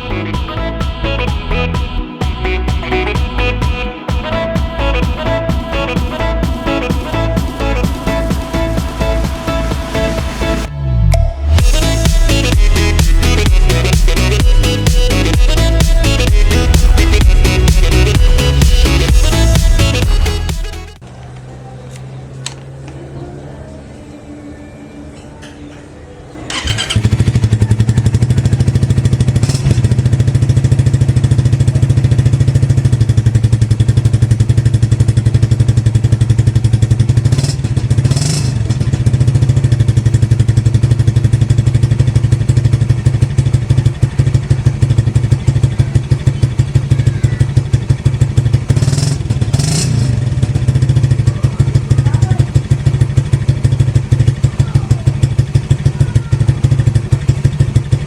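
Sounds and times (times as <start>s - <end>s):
motorcycle engine idling: 0.0s - 10.8s, 11.4s - 22.9s, 26.4s - 58.0s.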